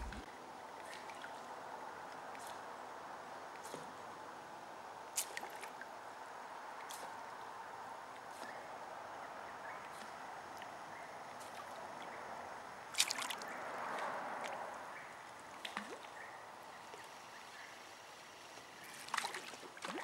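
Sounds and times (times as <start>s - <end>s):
creek water trickling: 0.0s - 20.0s.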